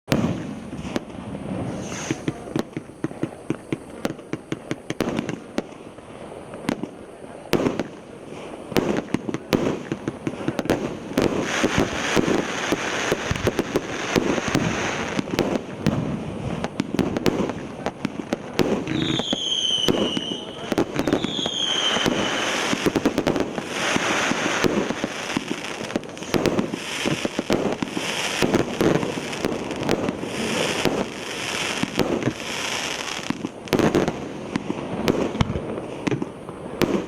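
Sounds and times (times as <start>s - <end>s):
fireworks hissing: 0.1s - 37.0s
fireworks popping and banging: 0.1s - 37.0s.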